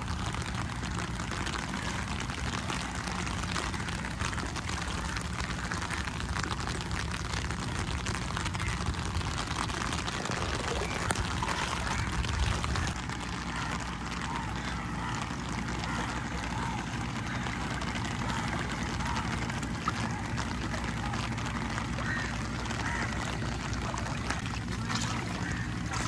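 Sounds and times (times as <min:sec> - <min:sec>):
boat engine running: 0:00.0 - 0:26.0
water noise: 0:00.0 - 0:26.0
wind: 0:00.0 - 0:26.0.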